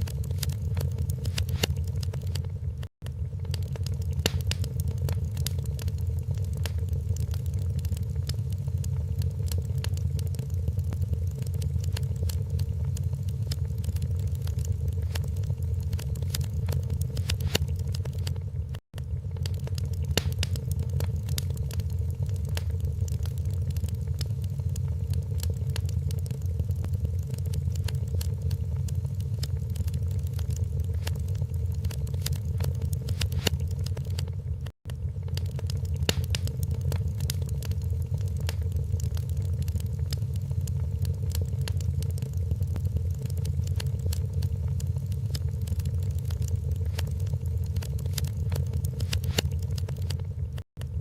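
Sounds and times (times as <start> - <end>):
flames low rumble: 0.0 - 51.0
wood fire crackling: 0.0 - 51.0.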